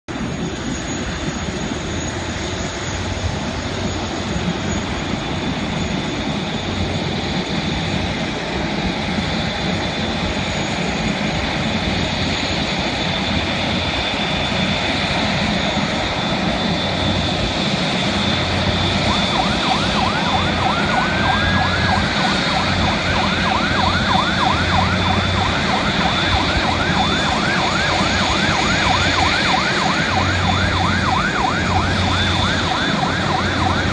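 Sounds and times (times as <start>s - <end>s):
jet engines whining: 0.1s - 33.9s
fire truck siren wailing: 1.0s - 33.9s.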